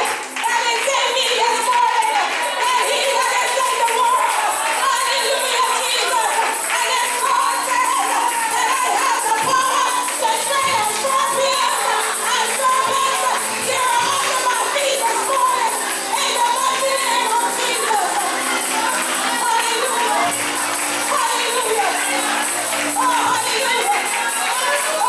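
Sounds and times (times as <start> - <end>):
tambourine shaking: 0.0 - 25.0
voices singing: 0.0 - 25.0.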